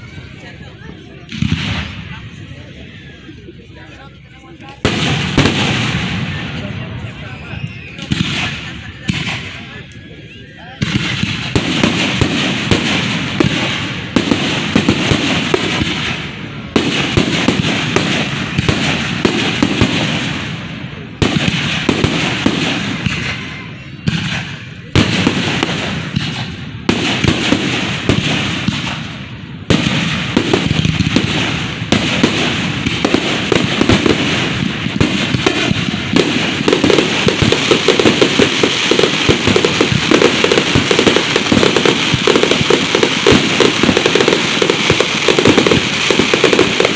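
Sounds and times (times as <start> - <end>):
fireworks bangs: 0.0 - 46.9
fireworks crackling: 0.0 - 46.9.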